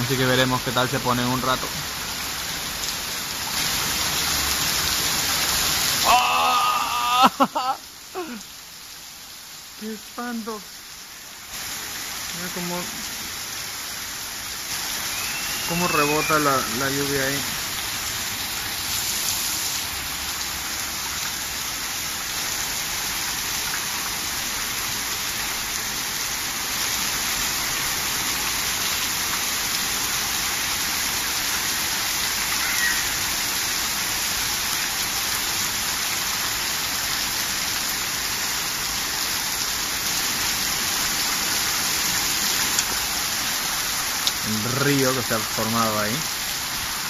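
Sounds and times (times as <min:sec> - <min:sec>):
heavy rain splashing on water: 0:00.0 - 0:47.0.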